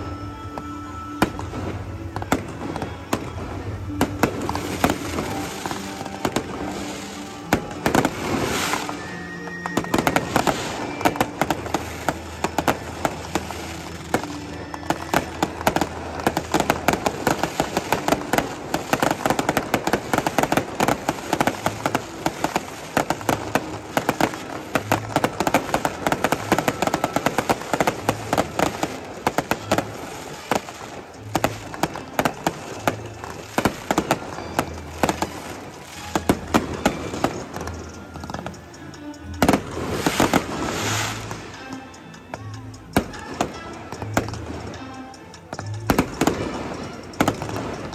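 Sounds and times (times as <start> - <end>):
fireworks popping and crackling: 0.0 - 47.9.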